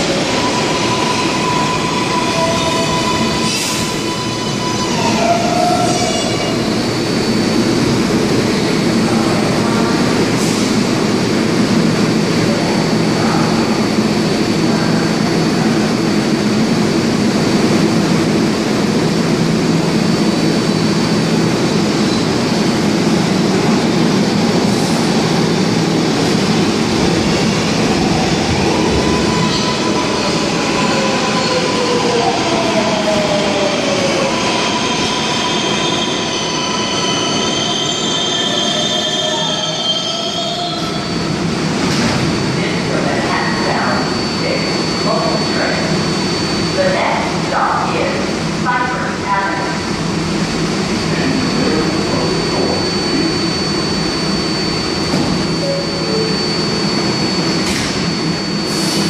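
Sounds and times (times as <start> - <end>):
subway train rumbling: 0.0 - 59.0.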